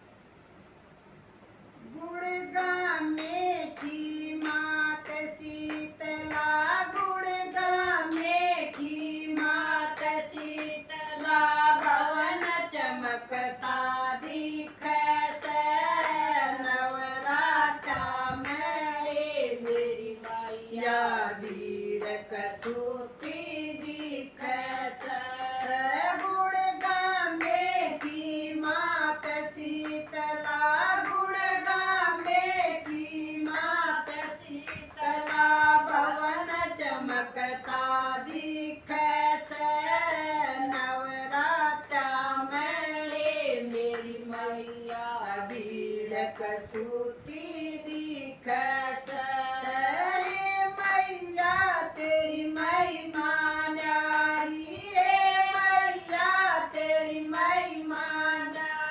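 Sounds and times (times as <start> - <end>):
women singing together: 1.8 - 58.9
hand claps: 3.0 - 58.9.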